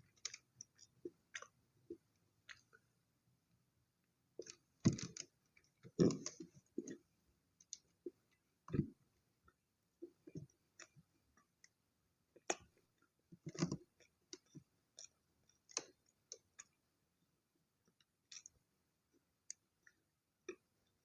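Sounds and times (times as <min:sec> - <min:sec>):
soft chewing: 0:00.0 - 0:03.0, 0:04.3 - 0:16.9, 0:17.8 - 0:21.0.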